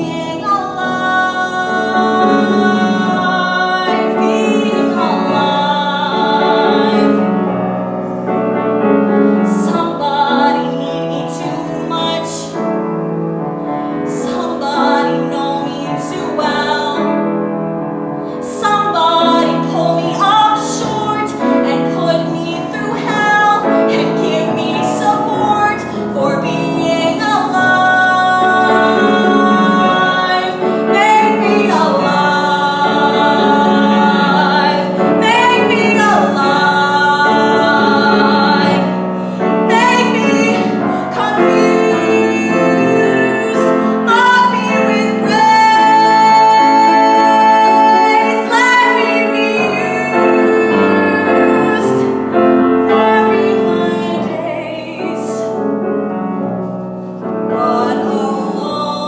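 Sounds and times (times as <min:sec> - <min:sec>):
woman singing with vibrato: 0:00.0 - 0:07.5, 0:09.1 - 0:12.8, 0:13.7 - 0:17.3, 0:18.3 - 0:55.6, 0:57.5 - 0:59.0
grand piano accompaniment: 0:00.0 - 0:59.0.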